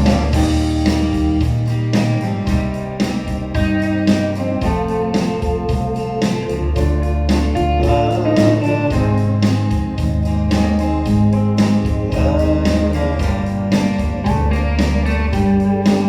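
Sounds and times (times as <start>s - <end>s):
folk-rock music over loudspeakers: 0.0s - 16.0s.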